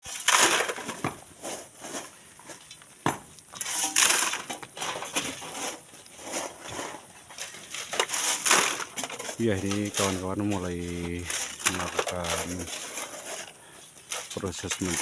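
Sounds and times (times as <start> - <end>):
shovels digging into gravel: 0.0 - 2.6, 3.5 - 15.0.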